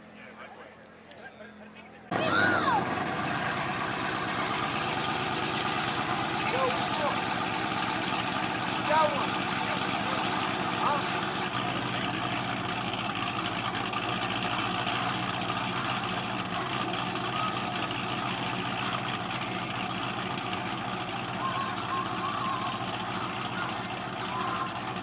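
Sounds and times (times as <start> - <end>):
street background hum: 0.0 - 25.0
vehicle engine idling: 0.0 - 25.0.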